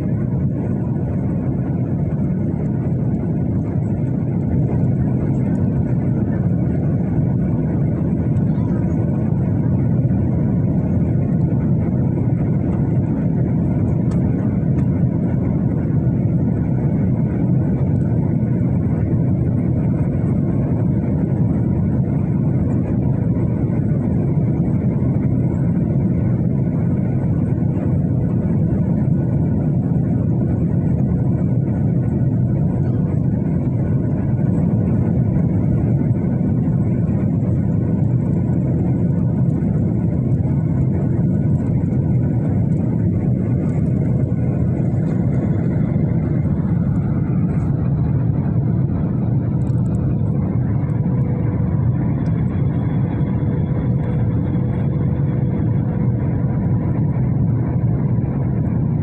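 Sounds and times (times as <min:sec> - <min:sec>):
airplane engines droning: 0:00.0 - 0:59.0.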